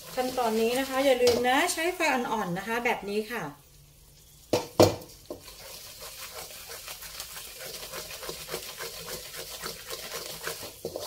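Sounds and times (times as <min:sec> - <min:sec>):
sugar sizzling in a pan: 0:00.0 - 0:11.0.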